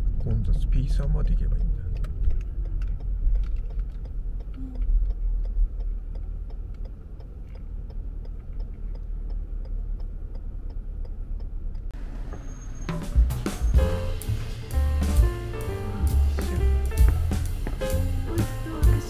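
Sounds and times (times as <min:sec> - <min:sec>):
car rolling rumble: 0:00.0 - 0:19.0
turn signal ticking: 0:00.0 - 0:19.0.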